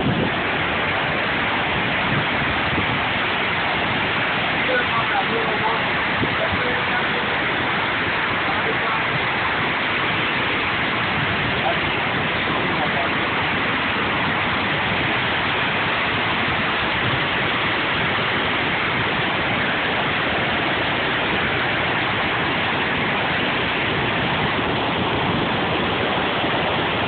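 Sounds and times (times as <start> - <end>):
waterfall rushing over rocks: 0.0 - 27.0.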